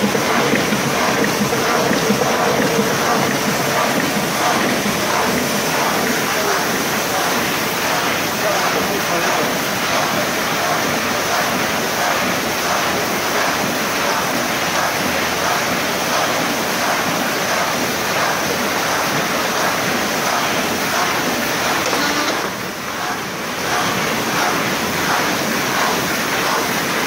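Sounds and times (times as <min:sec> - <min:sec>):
die-cutting press running: 0:00.0 - 0:27.0.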